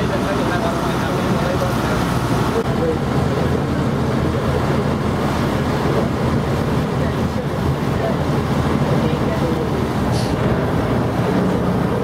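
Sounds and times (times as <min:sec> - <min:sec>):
boat engine running: 0:00.0 - 0:12.0
wash of water: 0:00.0 - 0:12.0
wind buffeting microphone: 0:00.0 - 0:12.0.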